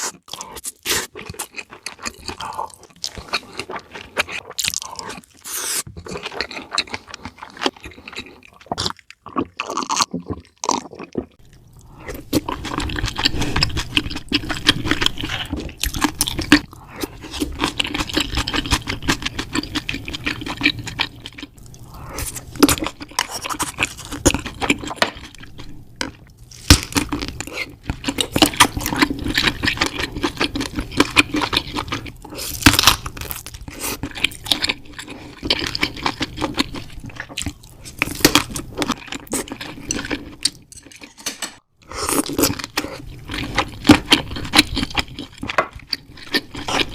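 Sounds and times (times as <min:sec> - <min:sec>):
wet chewing and smacking: 0:00.0 - 0:41.1, 0:41.9 - 0:46.9.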